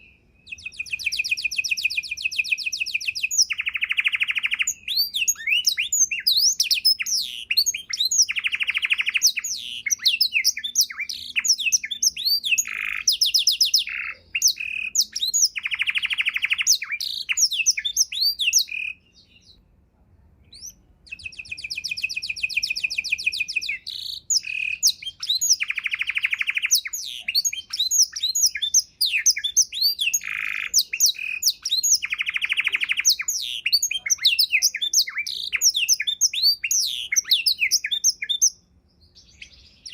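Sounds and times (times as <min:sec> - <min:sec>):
canary singing with trills: 0:00.0 - 0:19.6, 0:20.5 - 0:39.9.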